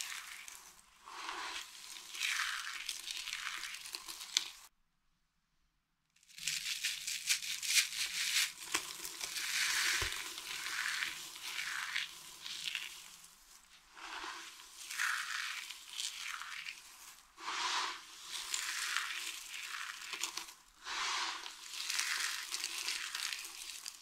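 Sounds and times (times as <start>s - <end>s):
dry soap shavings crunching: 0.0s - 4.7s, 6.2s - 24.0s.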